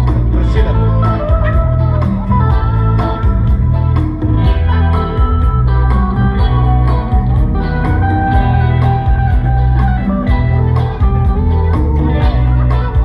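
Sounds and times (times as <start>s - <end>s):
bass line: 0.0s - 13.0s
blues guitar: 0.0s - 13.0s
steady drum beat: 0.0s - 13.0s.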